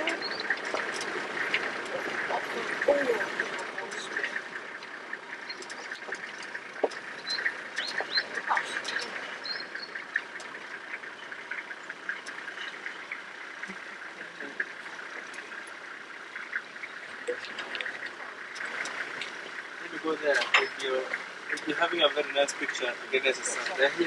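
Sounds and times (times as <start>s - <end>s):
birds chirping chorus: 0.0s - 21.7s.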